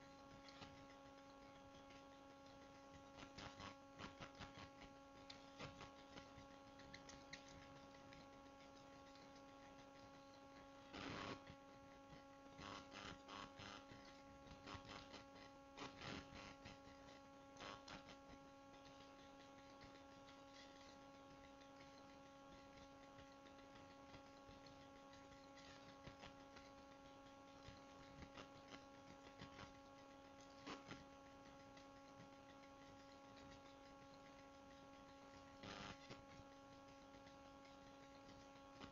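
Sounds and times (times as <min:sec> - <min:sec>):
faint electrical hum: 0:00.0 - 0:38.9.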